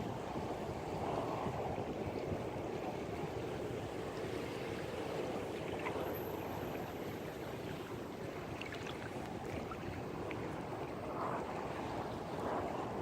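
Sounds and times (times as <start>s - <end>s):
faint water splashes: 1.1s - 13.0s.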